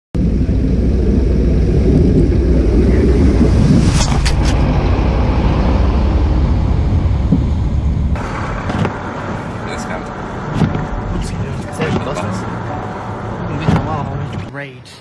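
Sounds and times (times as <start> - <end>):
vehicle rumble: 0.2 - 15.0.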